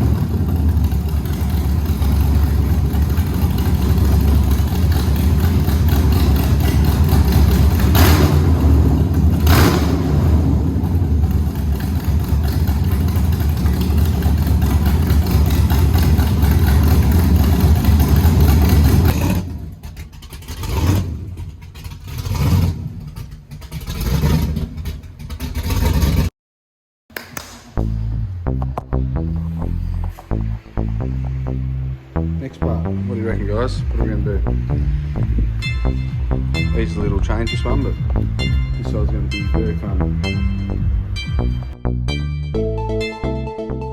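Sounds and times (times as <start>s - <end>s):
car engine running: 0.0s - 26.3s, 27.8s - 42.8s.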